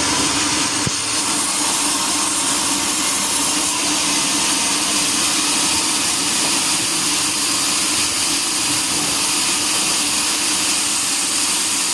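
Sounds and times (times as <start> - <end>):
sawmill saw hissing: 0.0 - 11.9.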